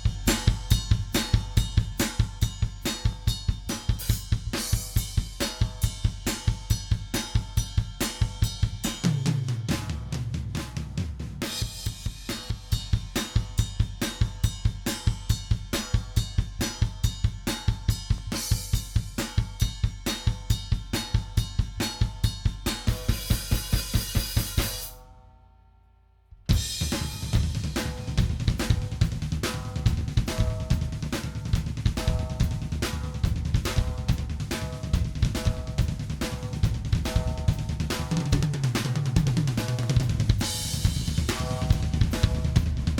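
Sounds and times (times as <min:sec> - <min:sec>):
rock drum kit playing: 0:00.0 - 0:25.0, 0:26.5 - 0:42.9.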